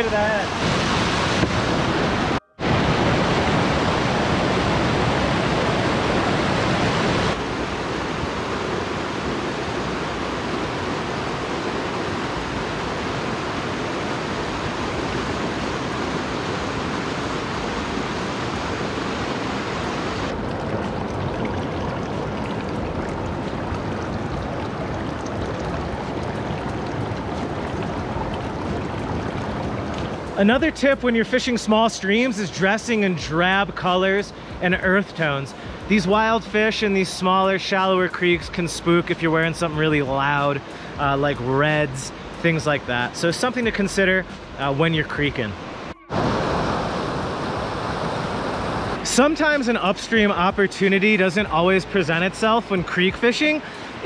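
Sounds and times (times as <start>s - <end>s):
creek and waterfall rushing: 0.0s - 54.0s.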